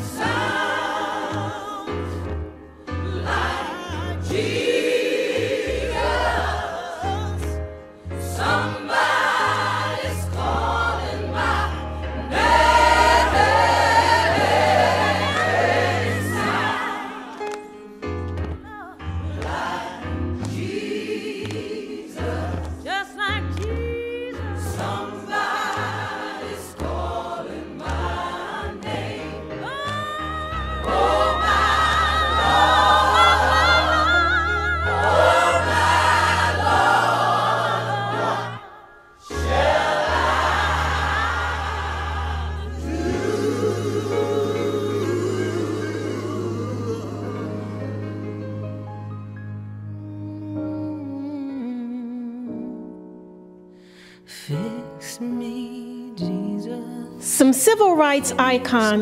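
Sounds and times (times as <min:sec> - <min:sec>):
gospel choir singing: 0:00.0 - 0:18.0, 0:19.1 - 0:49.2.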